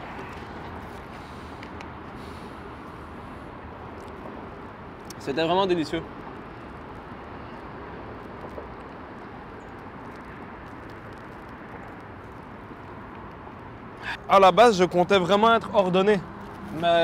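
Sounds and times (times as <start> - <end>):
distant street traffic: 0.0 - 17.0.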